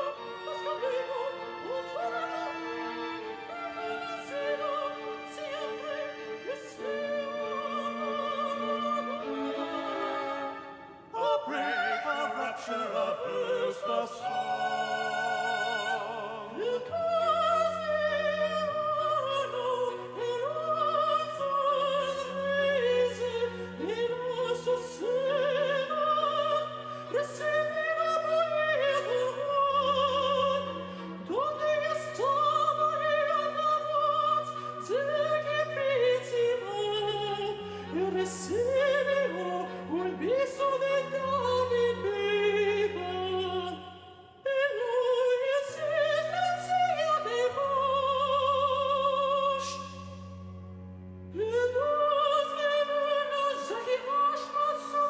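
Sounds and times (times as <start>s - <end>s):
high voice singing opera: 0.0s - 50.1s, 51.4s - 55.0s.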